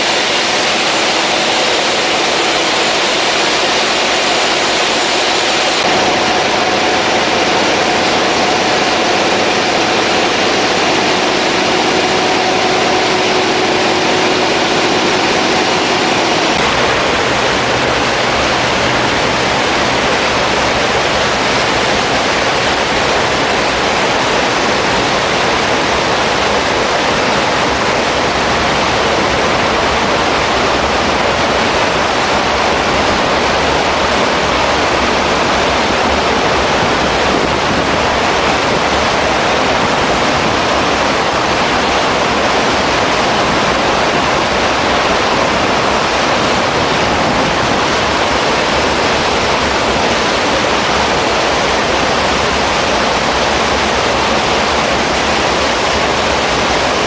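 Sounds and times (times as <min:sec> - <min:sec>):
foaming water rushing: 0:00.0 - 0:57.0.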